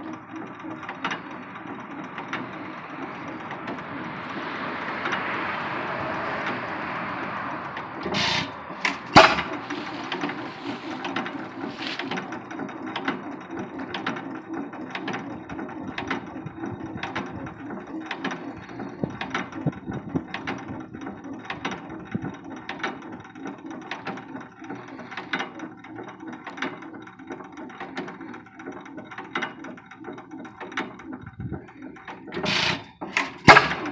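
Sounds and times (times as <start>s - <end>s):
engine clicks and pops: 0.0s - 5.4s, 6.2s - 33.9s
stationary gas engine chugging: 0.0s - 33.9s.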